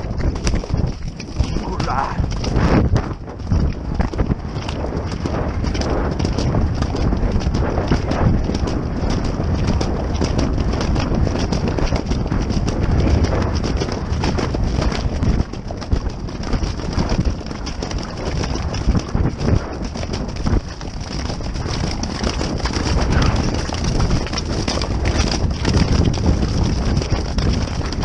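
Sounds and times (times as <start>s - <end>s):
hoofbeats on grass: 0.0s - 28.0s
wind buffeting microphone: 0.0s - 28.0s.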